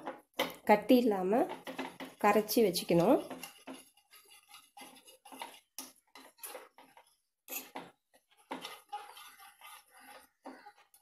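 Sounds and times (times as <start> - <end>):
whisk beating in plastic bowl: 1.1 - 11.0.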